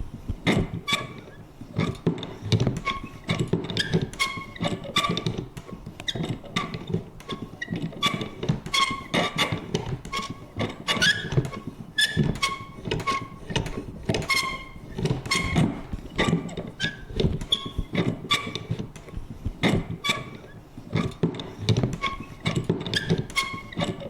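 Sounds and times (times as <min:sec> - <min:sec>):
paper punch clunking and creaking: 0:00.3 - 0:24.0.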